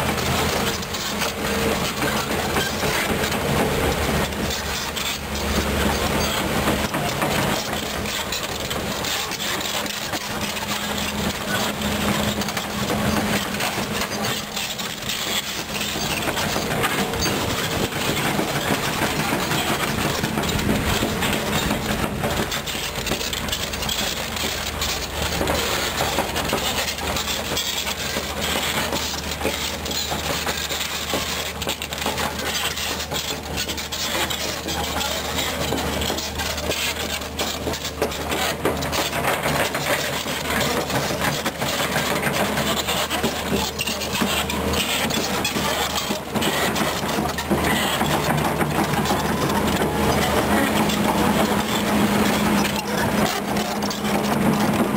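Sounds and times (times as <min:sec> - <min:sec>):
tracks grinding over gravel: 0:00.0 - 0:54.9.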